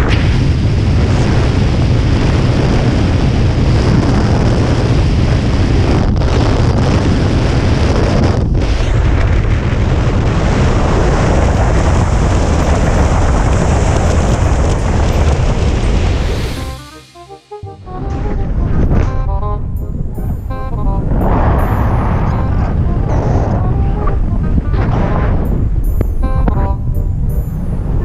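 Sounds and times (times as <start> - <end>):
wind buffeting microphone: 0.0 - 16.7, 18.0 - 28.0.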